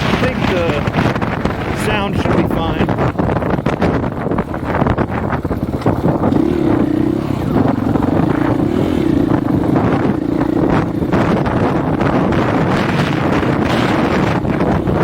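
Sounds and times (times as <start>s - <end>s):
dirt bike engine running: 0.0s - 15.0s
wind buffeting microphone: 0.0s - 15.0s.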